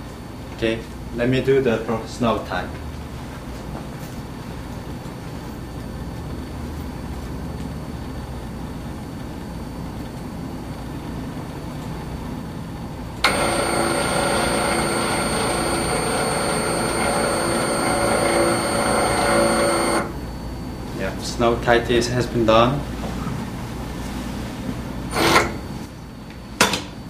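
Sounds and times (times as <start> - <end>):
low machine hum: 0.0 - 27.0
machine whine: 4.3 - 27.0.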